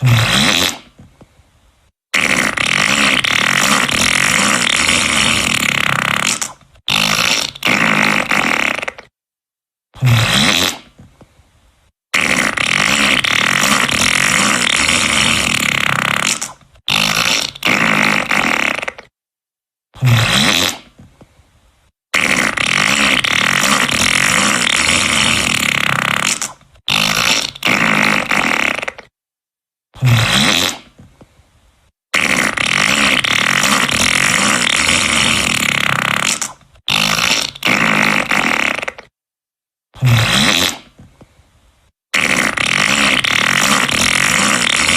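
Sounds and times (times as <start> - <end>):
fart sound effects: 0.0 - 1.2, 2.1 - 9.1, 10.0 - 11.1, 12.1 - 19.2, 20.0 - 21.2, 22.1 - 29.2, 30.0 - 31.2, 32.1 - 39.2, 40.0 - 41.2, 42.1 - 44.9.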